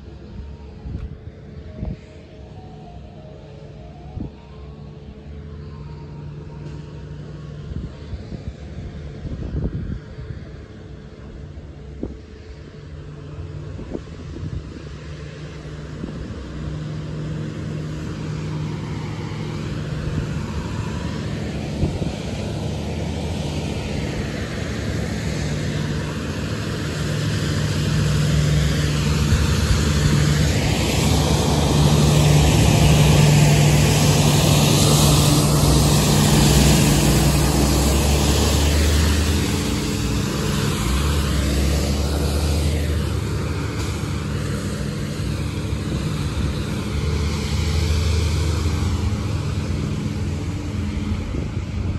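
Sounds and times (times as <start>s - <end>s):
street sweeper engine hum: 0.0s - 51.9s.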